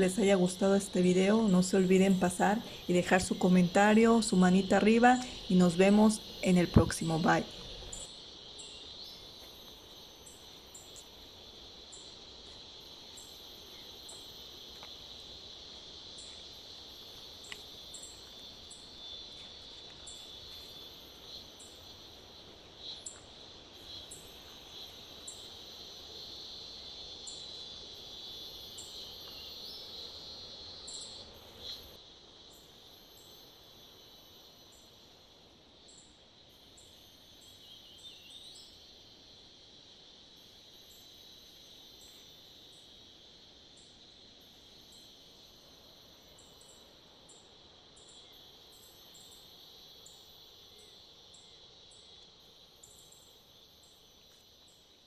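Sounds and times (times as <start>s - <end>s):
high insect chirps: 0.0s - 55.0s
insect chorus: 0.0s - 55.0s.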